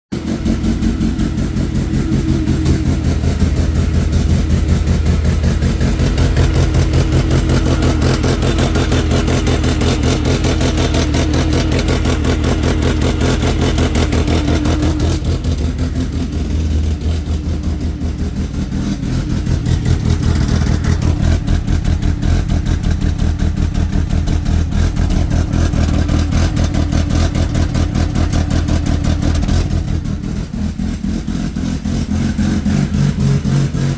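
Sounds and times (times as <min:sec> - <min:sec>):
car engine idling rough: 0:00.1 - 0:33.9.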